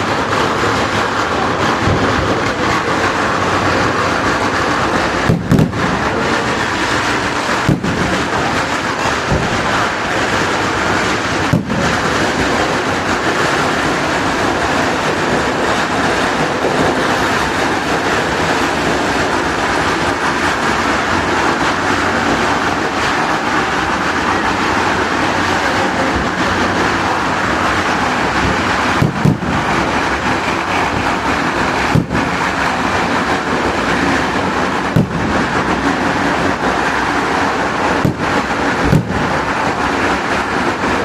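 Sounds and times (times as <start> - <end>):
fireworks barrage: 0.0 - 41.0.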